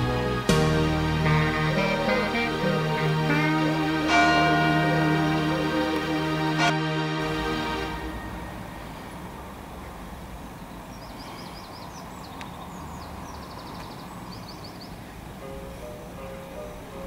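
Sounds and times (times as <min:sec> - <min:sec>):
distant traffic rumble: 0:00.0 - 0:17.0
songbird chirping: 0:00.0 - 0:17.0.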